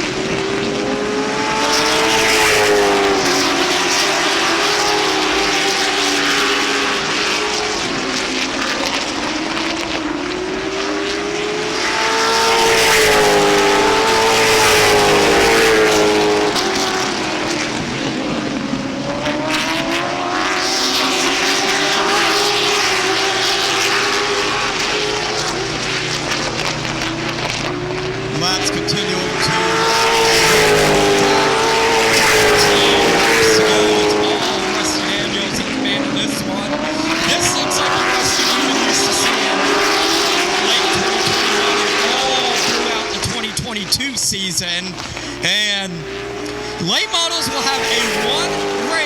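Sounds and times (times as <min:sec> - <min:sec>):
race car engines: 0:00.0 - 0:49.0.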